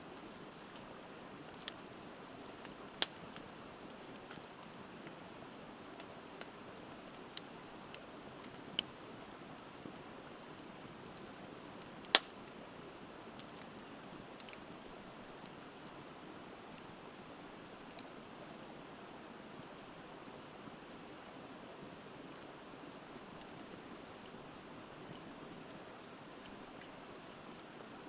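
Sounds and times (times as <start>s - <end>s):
bonfire crackling and popping: 0.0s - 28.0s.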